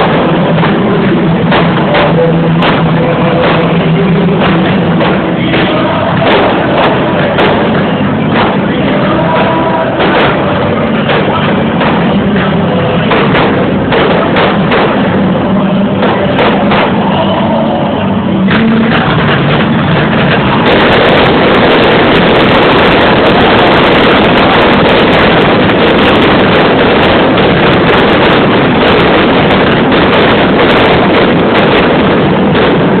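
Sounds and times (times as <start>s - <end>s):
firework explosions and crackles: 0.0s - 33.0s.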